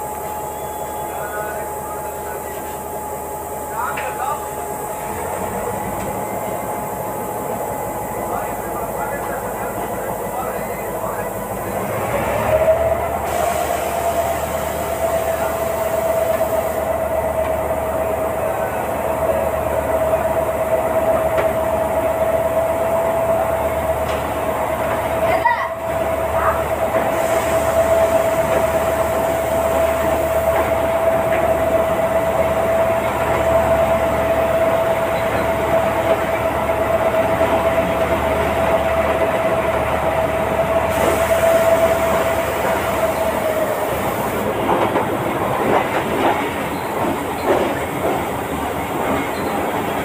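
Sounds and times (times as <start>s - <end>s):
train rolling along track: 0.0s - 50.0s.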